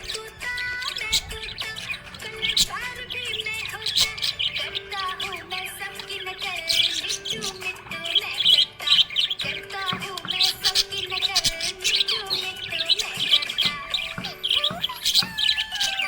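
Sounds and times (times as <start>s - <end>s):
background music: 0.0s - 16.0s
budgerigar chirping: 0.0s - 16.0s.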